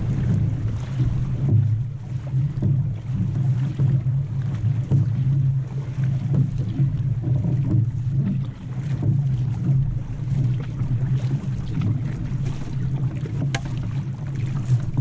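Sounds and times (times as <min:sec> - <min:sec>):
paddles pulling through water: 0:00.0 - 0:15.0
wind buffeting microphone: 0:00.0 - 0:15.0.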